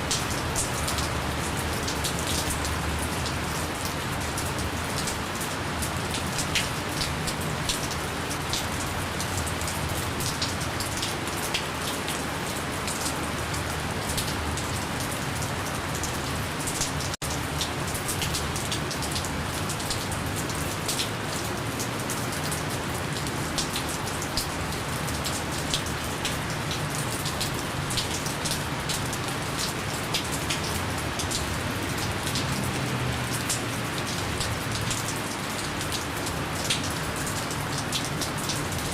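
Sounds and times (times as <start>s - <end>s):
gentle steady rain: 0.0s - 38.9s.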